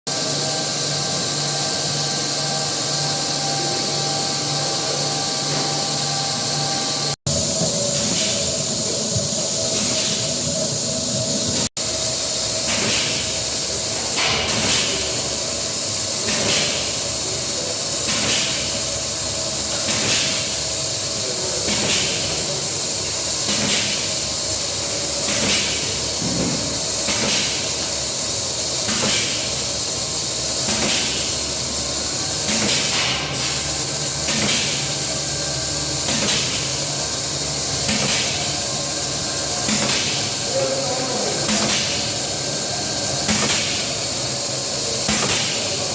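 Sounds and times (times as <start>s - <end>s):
cheese forming machine hissing: 0.1s - 45.9s.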